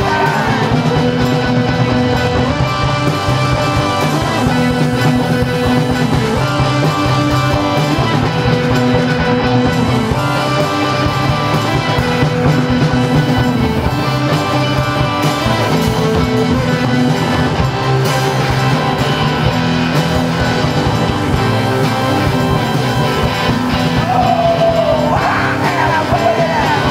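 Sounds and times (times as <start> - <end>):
punk rock band music: 0.0 - 26.9.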